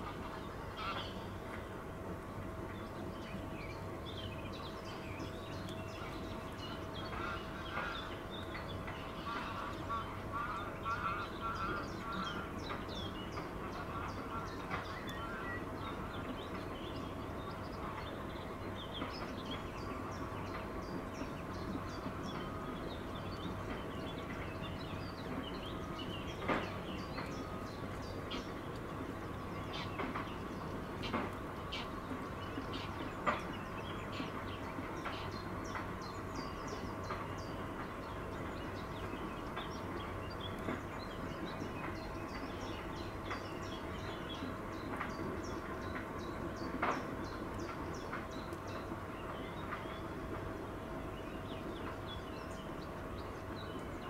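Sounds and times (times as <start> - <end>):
birds chattering: 0.0 - 54.0
wild birds chirping: 0.0 - 54.0.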